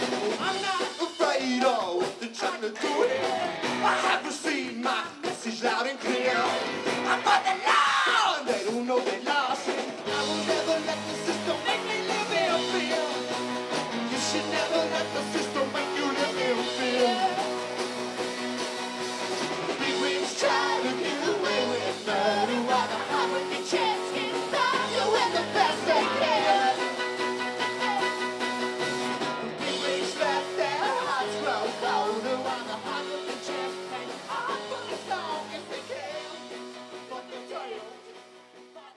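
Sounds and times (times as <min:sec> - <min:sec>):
people singing: 0:00.0 - 0:17.8, 0:19.7 - 0:28.2, 0:29.6 - 0:38.2
live rock band: 0:00.0 - 0:38.9.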